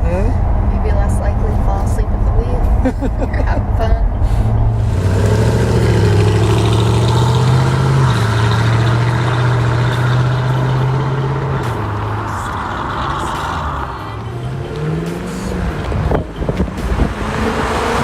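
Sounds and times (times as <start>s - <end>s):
car engine running: 0.1s - 18.0s.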